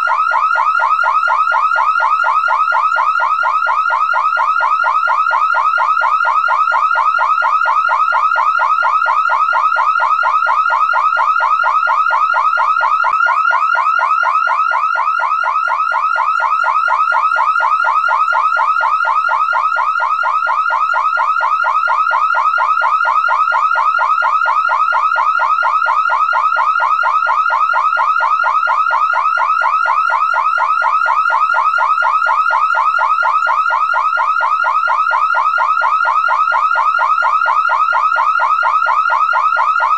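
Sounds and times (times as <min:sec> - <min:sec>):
car alarm siren chirping: 0:00.0 - 0:39.9.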